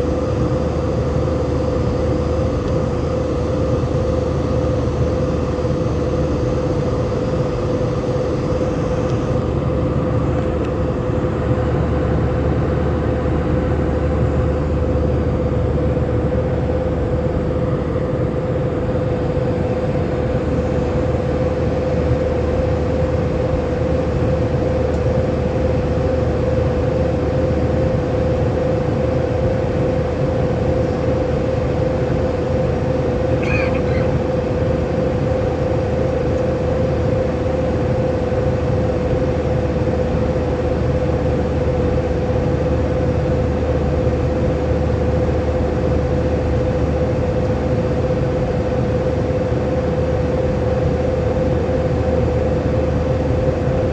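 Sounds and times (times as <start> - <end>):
constant hum: 0.0 - 53.9
jet engine and airflow rumble: 0.0 - 53.9.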